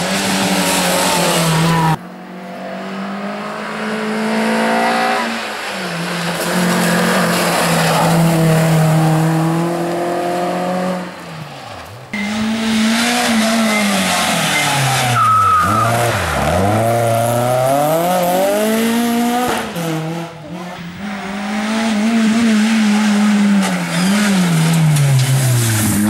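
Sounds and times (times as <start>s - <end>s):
rally car engines at full throttle: 0.0s - 26.0s.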